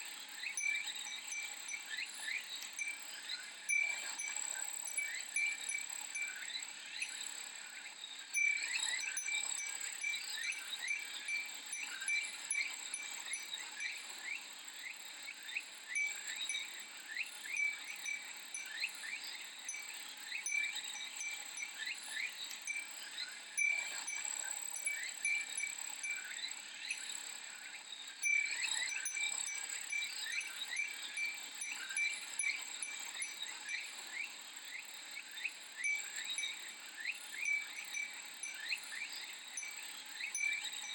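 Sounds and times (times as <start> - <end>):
glass wind chime tinkling: 0.0 - 40.9
cicadas shrilling: 0.4 - 40.9.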